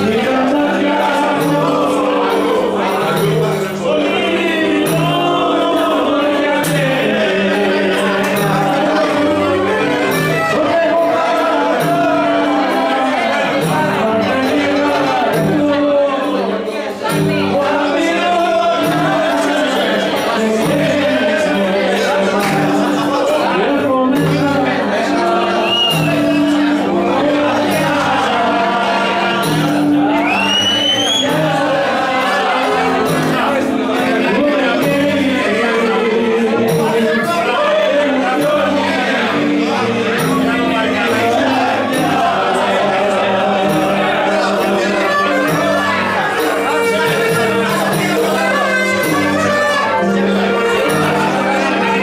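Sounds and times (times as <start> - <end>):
folk dance music: 0.0 - 52.0
person singing: 0.0 - 52.0.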